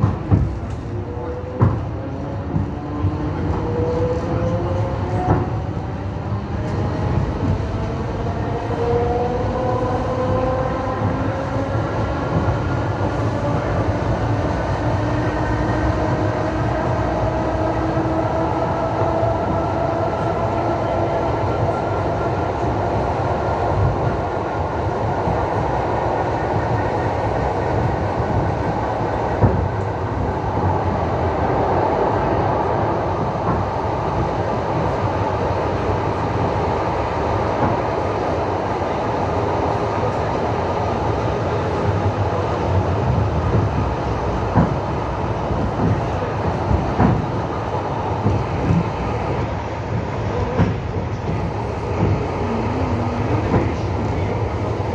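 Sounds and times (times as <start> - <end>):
rising train whine: 0.0 - 54.9
train running on rails: 0.0 - 54.9.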